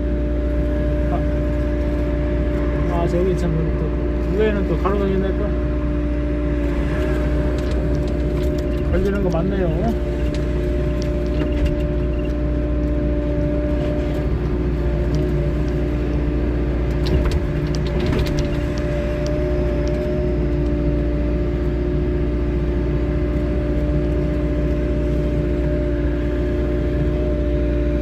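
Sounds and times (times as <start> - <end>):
diesel engine rumbling: 0.0 - 28.0
engine whine: 0.0 - 28.0.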